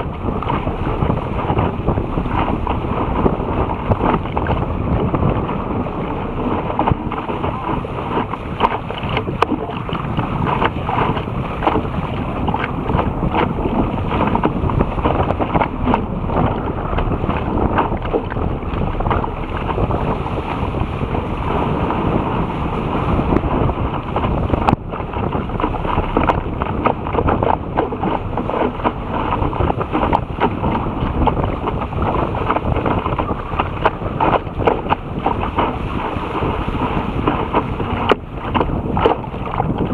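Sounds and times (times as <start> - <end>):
water rushing along boat bow: 0.0 - 39.9
wind buffeting microphone: 0.0 - 39.9.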